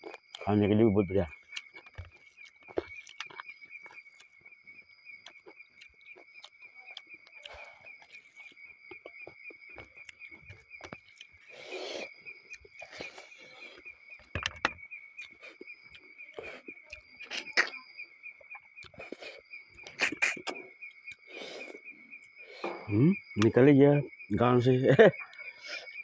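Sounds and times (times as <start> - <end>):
close-up chewing: 0.0 - 22.8
night insects chirring: 0.0 - 26.0.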